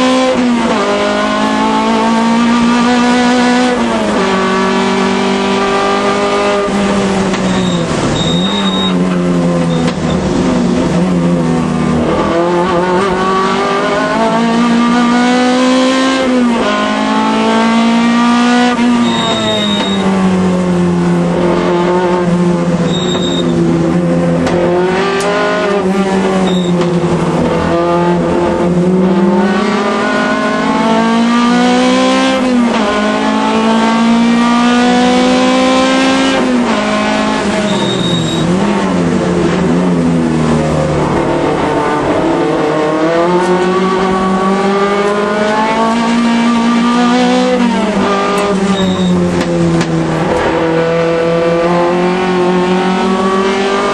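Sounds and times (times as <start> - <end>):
race car engine accelerating: 0.0 - 53.9.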